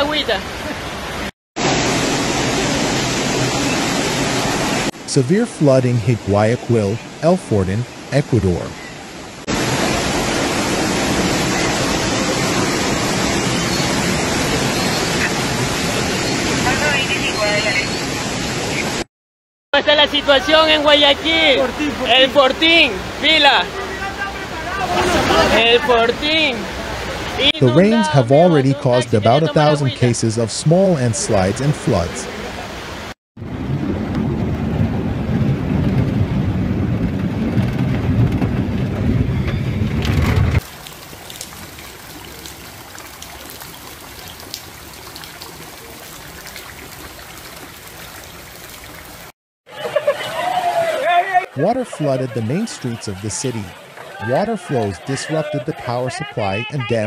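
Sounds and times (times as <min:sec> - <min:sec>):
water churning and splashing: 0:00.0 - 0:19.0, 0:20.0 - 0:57.0
floodwater rushing: 0:00.0 - 0:19.1, 0:19.8 - 0:57.0.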